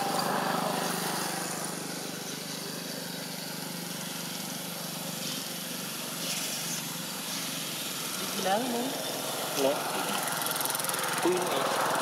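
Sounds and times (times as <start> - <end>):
low engine hum: 0.0 - 12.0
outdoor background noise: 0.0 - 12.0.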